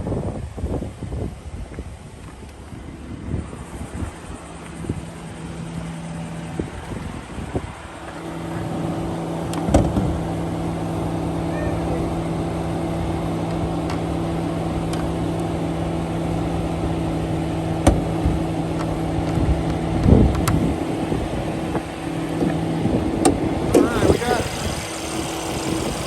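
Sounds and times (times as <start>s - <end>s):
car engine idling: 1.9s - 26.0s.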